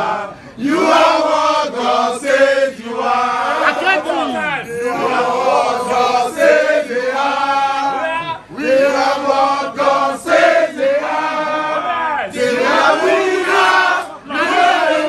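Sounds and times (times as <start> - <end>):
male voices chanting: 0.0 - 15.0.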